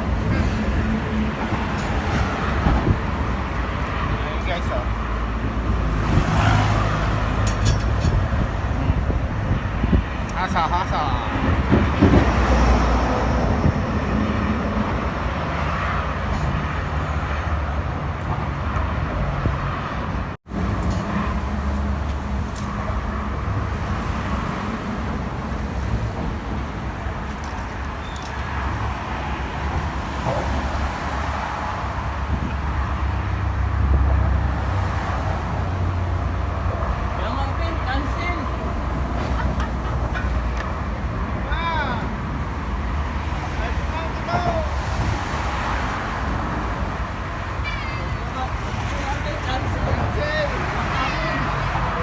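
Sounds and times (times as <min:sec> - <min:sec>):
road traffic passing: 0:00.0 - 0:52.0.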